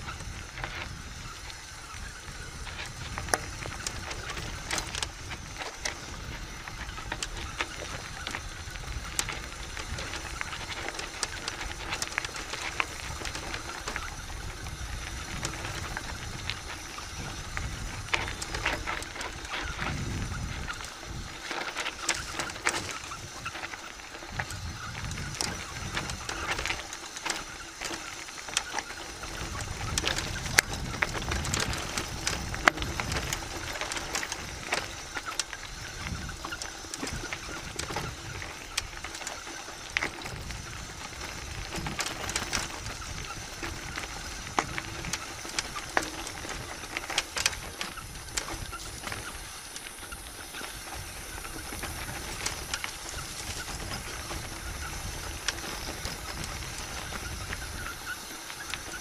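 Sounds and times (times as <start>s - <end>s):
bike clicks and rattles: 0.0s - 59.0s
tyres crunching over gravel: 0.0s - 59.0s
wind buffeting microphone: 0.0s - 59.0s.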